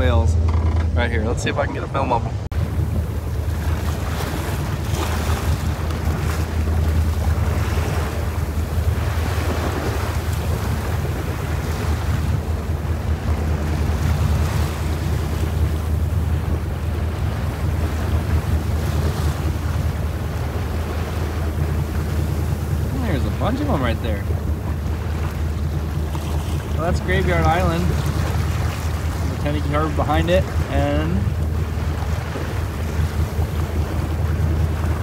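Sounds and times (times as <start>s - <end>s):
boat engine droning: 0.0s - 35.0s
water sloshing against hull: 0.0s - 35.0s
wind buffeting microphone: 0.0s - 35.0s.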